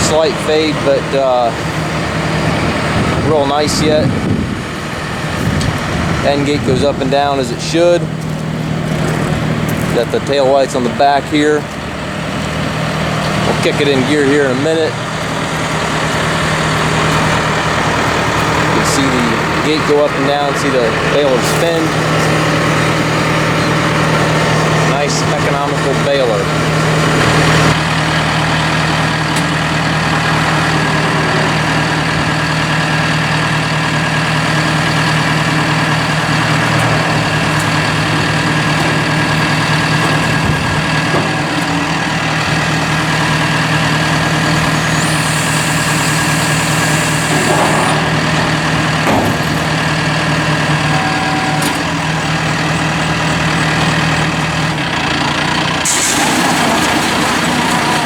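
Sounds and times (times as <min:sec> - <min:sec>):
baler belts and rollers turning: 0:00.0 - 0:58.0
tractor engine running: 0:00.0 - 0:58.0.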